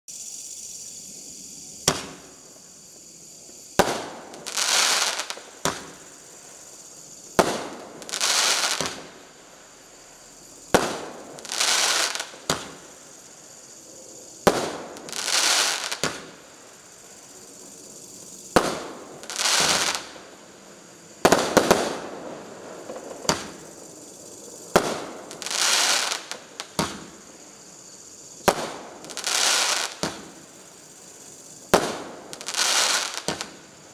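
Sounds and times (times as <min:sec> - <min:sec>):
firework stars crackling: 0:00.4 - 0:33.9.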